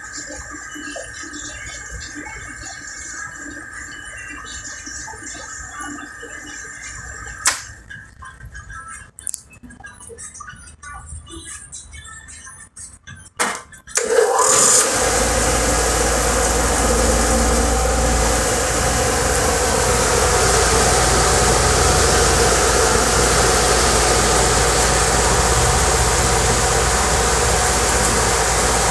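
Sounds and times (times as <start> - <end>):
dishwasher motor hum: 0.0 - 7.8, 13.4 - 28.9
dishwasher water rushing: 0.0 - 7.8, 13.4 - 28.9.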